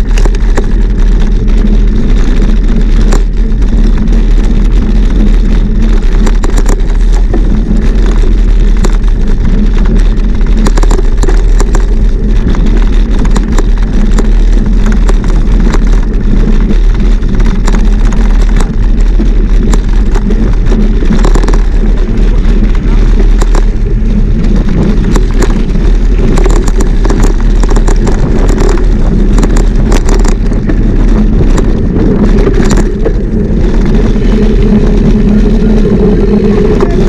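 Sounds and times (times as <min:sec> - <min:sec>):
bike clicks and rattles: 0:00.0 - 0:37.0
wind rumbling on microphone: 0:00.0 - 0:37.0.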